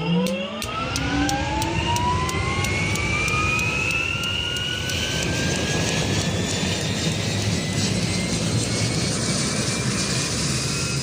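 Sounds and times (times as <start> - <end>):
engine whine rising in pitch: 0.0 - 11.0.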